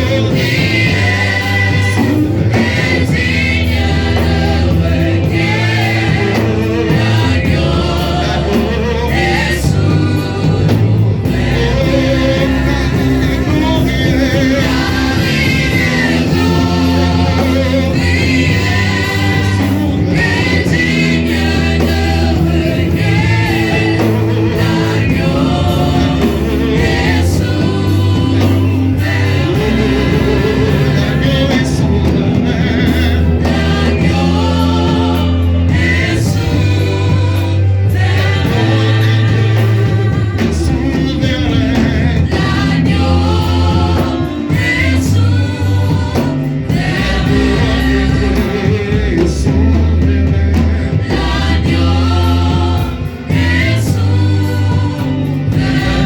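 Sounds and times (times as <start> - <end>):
gospel singers with band: 0.0 - 56.0
strong bass line: 0.0 - 56.0.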